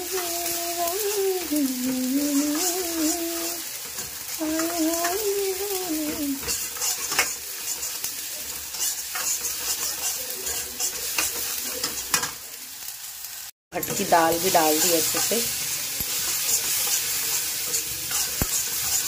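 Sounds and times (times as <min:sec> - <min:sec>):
spices sizzling in a pan: 0:00.0 - 0:19.0.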